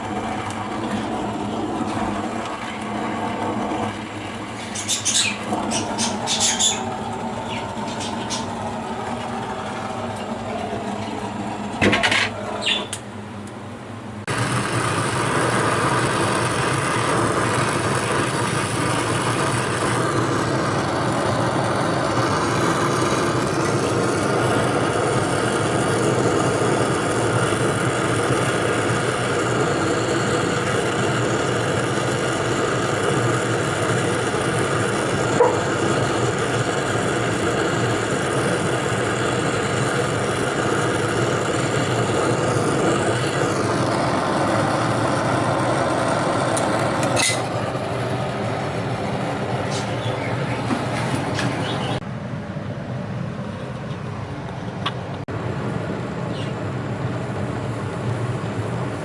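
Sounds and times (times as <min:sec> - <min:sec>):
machine motor humming: 0:00.0 - 0:52.1.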